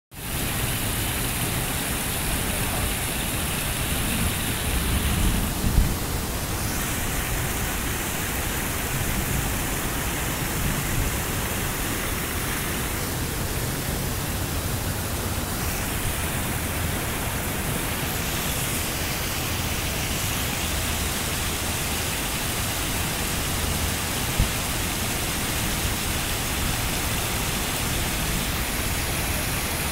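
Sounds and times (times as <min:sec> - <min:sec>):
whitewater roaring over rocks: 0:00.2 - 0:29.9.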